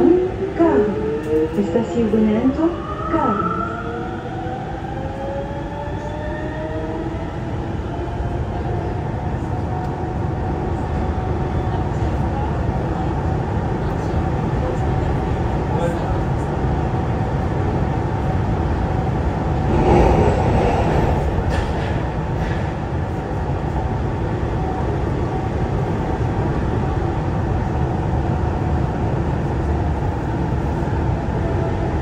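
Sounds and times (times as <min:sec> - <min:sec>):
metro car rumbling: 0:00.0 - 0:32.0.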